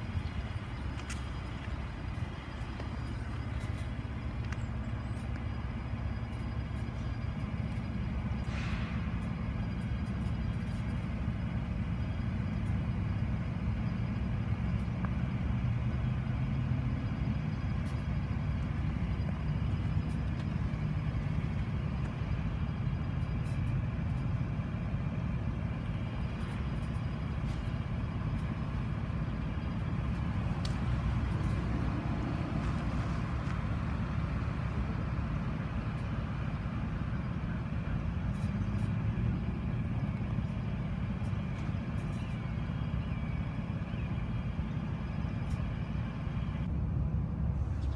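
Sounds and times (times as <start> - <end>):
diesel locomotives idling: 0.0 - 47.9.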